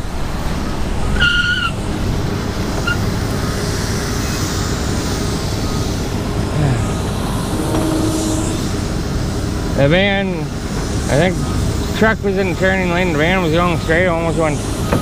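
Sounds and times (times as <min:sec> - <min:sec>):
wind rumble: 0:00.0 - 0:14.9
tyres rolling on road: 0:00.0 - 0:15.0.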